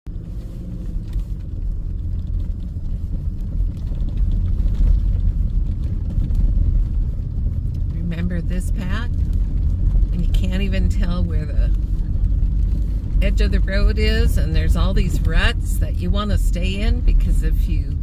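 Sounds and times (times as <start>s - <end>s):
car driving on snowy road: 0.1s - 18.0s.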